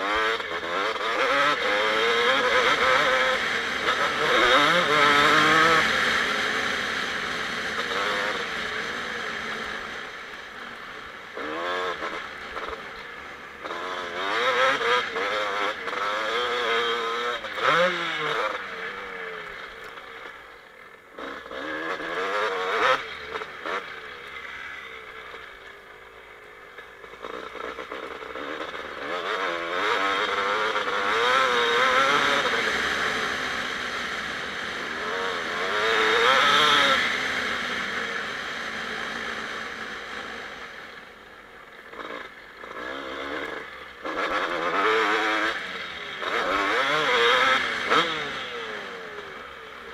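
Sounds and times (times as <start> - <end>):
motocross engine revving: 0.0 - 20.4, 21.1 - 25.6, 27.0 - 41.1, 41.8 - 49.9.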